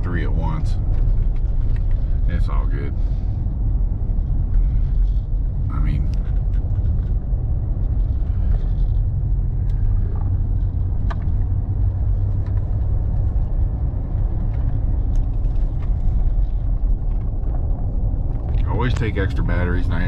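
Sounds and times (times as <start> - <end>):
car engine and road noise: 0.0 - 20.0
faint clicks and rattles: 0.1 - 2.7, 4.1 - 20.0.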